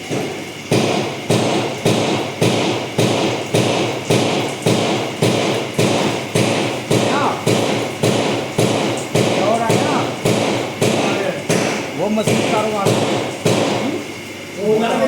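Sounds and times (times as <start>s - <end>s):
steady knocking thumps: 0.1s - 13.9s.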